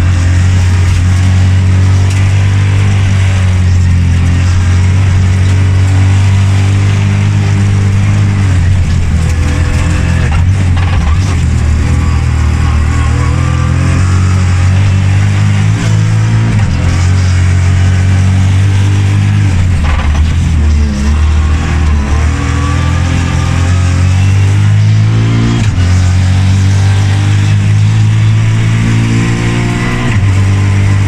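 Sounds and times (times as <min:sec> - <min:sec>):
turbocharged car engine revving: 0:00.0 - 0:31.0.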